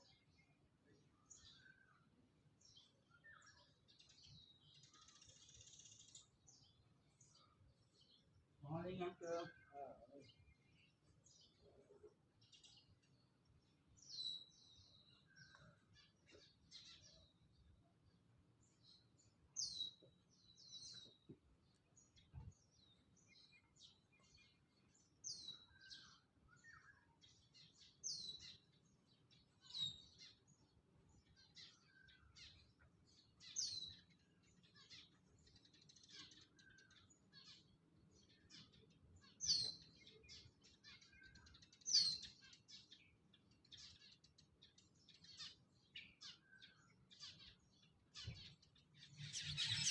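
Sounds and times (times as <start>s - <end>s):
soft bird chirps: 0.0s - 49.9s.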